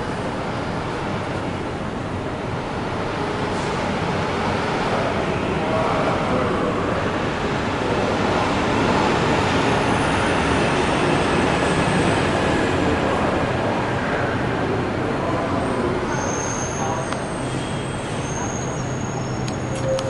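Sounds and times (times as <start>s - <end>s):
subway train rumbling on track: 0.0s - 20.0s.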